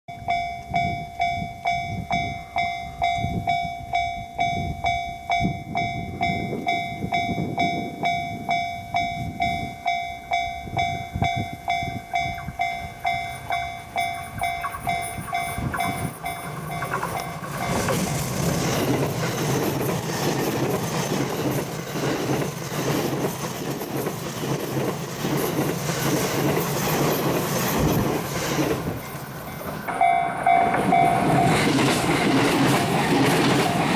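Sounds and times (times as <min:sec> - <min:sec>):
level crossing warning bell: 0:00.1 - 0:24.0, 0:28.8 - 0:33.9
electric train passing: 0:00.2 - 0:33.9
wind buffeting microphone: 0:00.2 - 0:33.9.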